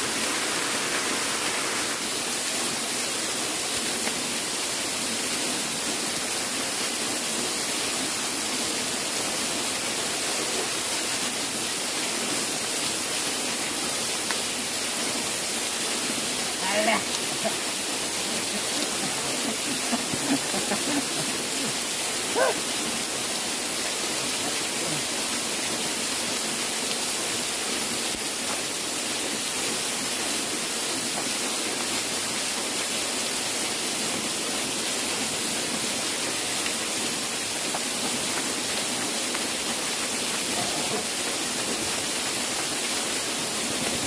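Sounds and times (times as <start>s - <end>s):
waterfall pouring onto rocks: 0.0s - 44.0s.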